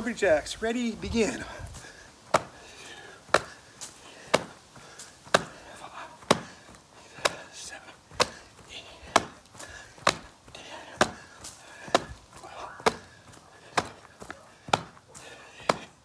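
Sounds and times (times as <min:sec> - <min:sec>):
jumping jacks smacking: 0:01.6 - 0:16.0.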